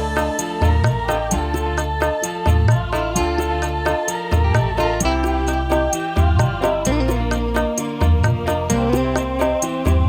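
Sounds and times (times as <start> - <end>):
heavy bass line: 0.0 - 10.0
held keyboard notes: 0.0 - 10.0
live band playing: 0.0 - 10.0.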